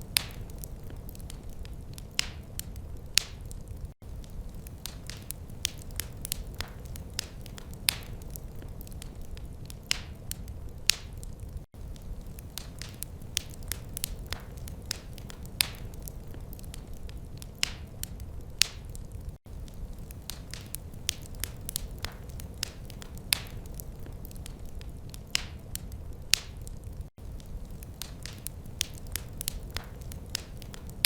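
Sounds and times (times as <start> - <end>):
low rumble of burning: 0.0 - 31.0
wood fire crackling and popping: 0.0 - 31.0.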